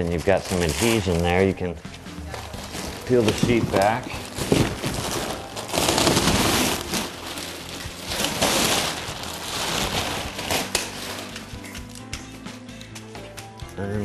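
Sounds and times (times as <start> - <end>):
plastic sheeting crinkling: 0.0 - 12.0.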